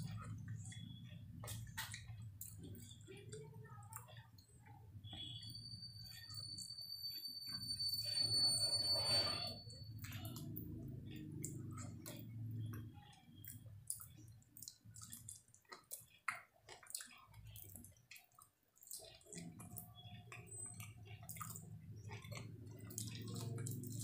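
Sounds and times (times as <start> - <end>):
wet chewing with lip smacks: 0.0 - 5.2, 9.9 - 24.0.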